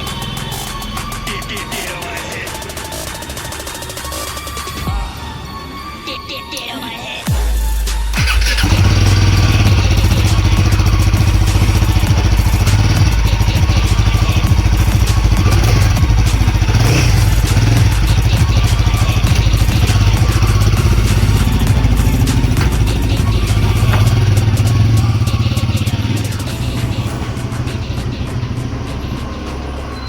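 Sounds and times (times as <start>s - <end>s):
motorcycle engine starting and idling: 0.0s - 6.0s, 7.3s - 30.0s.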